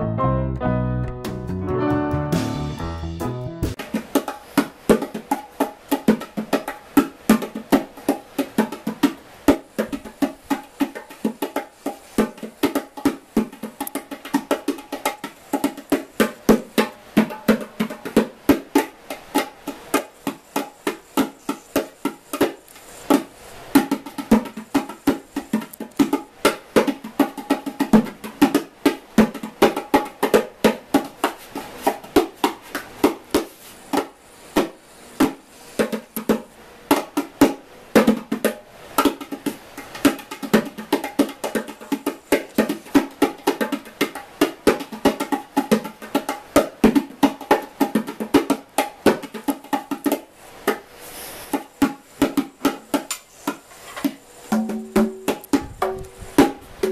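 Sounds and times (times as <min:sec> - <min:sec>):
bongos played by hand: 0:00.5 - 0:56.9.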